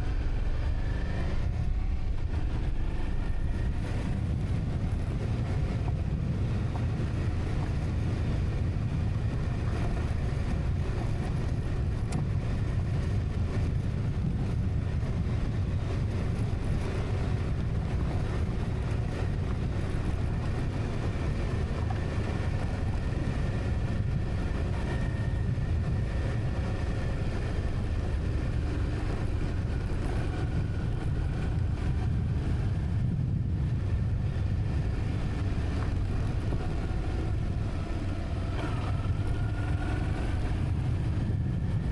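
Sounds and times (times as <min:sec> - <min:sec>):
vehicle engine low rumble: 0:00.0 - 0:41.9.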